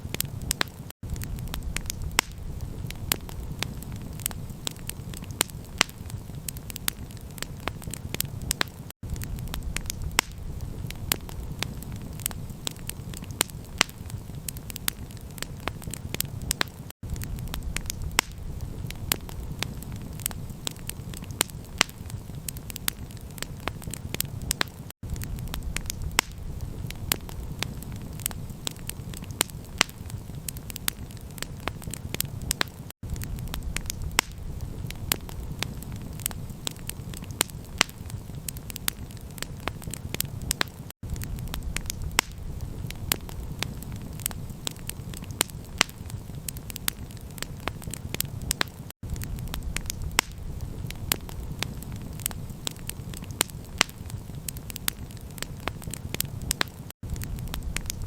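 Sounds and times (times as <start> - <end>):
wood campfire crackling: 0.0 - 58.0.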